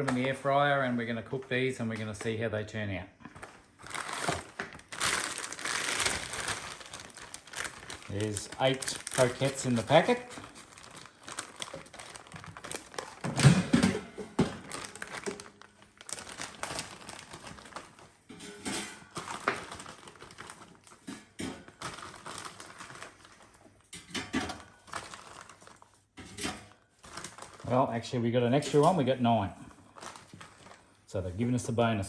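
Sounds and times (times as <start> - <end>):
plastic packet crinkling: 3.3 - 13.8, 14.4 - 18.3, 19.1 - 26.1, 26.7 - 31.1.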